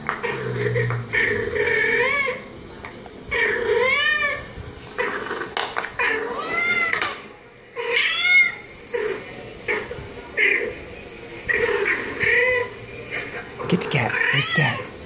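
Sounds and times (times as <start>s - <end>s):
cats meowing on television: 0.2s - 2.5s, 3.3s - 10.8s, 11.5s - 15.0s.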